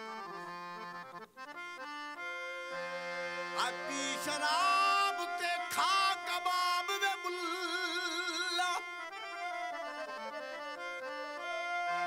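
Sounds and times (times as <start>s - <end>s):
reedy instrumental folk melody: 0.0s - 12.0s.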